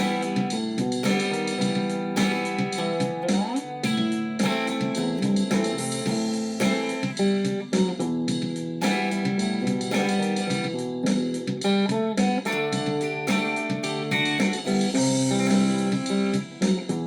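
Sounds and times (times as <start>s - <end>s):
plucked guitar melody: 0.0s - 17.0s.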